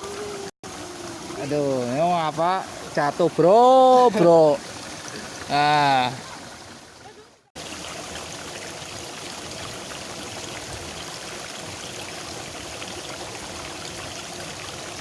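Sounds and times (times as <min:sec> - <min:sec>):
water rushing in ditch: 0:00.0 - 0:15.0.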